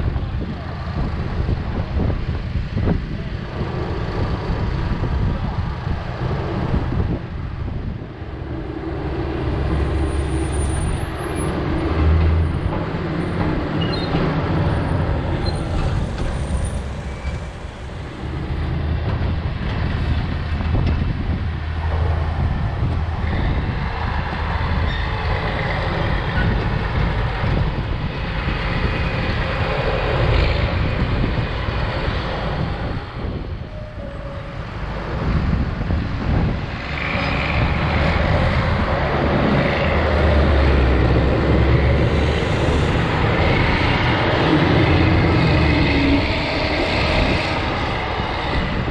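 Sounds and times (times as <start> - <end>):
diesel engines running: 0.0 - 48.9.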